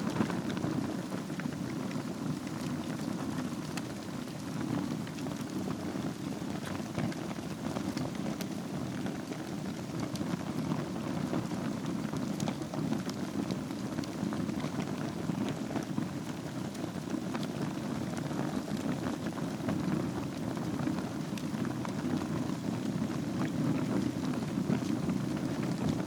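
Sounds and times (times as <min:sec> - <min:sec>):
fire crackles and pops: 0:00.0 - 0:26.0
fire rushing in fireplace: 0:00.0 - 0:26.0.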